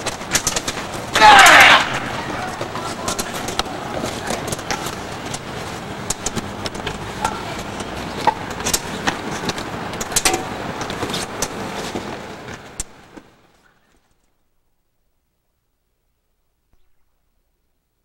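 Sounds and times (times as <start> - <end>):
street background noise: 0.0 - 17.6.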